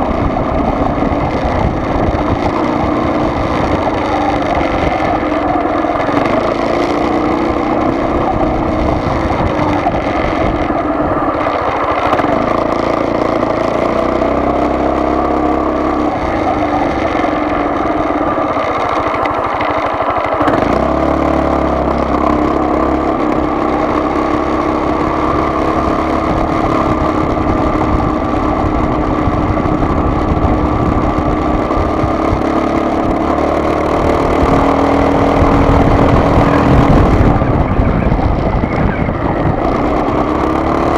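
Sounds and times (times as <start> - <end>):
car engine: 0.0 - 40.9
road noise inside car: 0.0 - 40.9.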